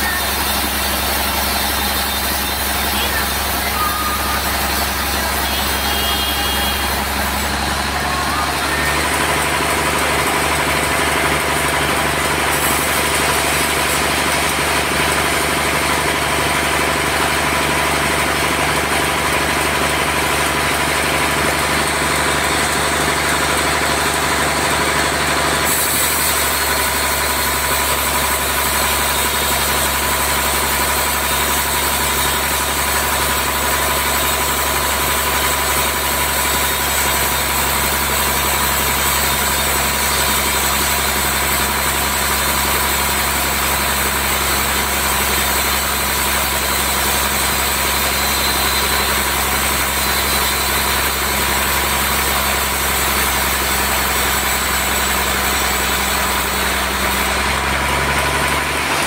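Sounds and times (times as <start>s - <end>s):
thin saw whine: 0.0s - 58.0s
band sawmill cutting log: 0.0s - 59.0s.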